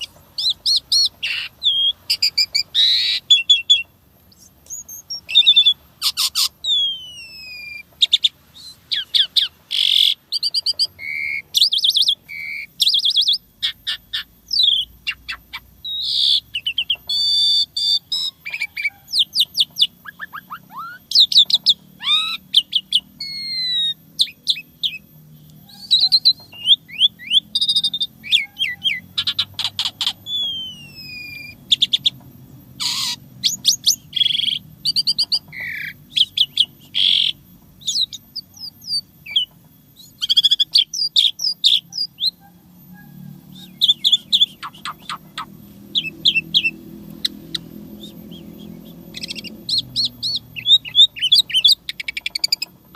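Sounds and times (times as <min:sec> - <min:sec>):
starling singing: 0:00.0 - 0:52.9.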